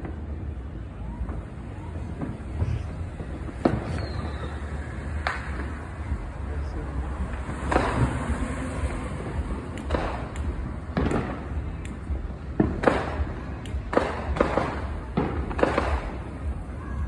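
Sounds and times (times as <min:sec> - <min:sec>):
firework bangs and pops: 0:00.0 - 0:17.0.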